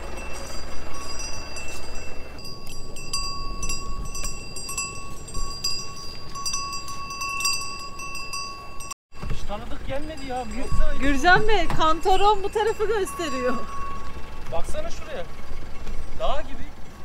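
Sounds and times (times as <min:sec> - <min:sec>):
cow bells clinking: 0:00.0 - 0:15.4.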